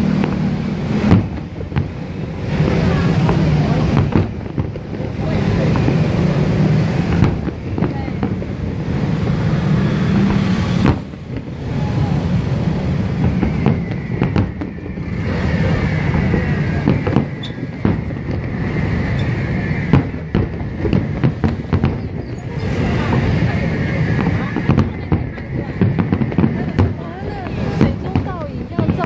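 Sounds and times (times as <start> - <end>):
distant fireworks booming: 0.0 - 29.0
fireworks sharp bangs and crackle: 0.0 - 29.0.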